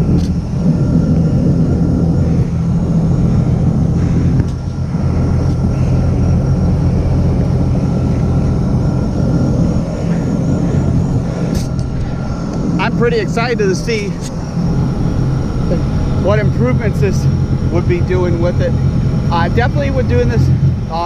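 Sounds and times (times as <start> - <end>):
watercraft engine humming: 0.0 - 21.0.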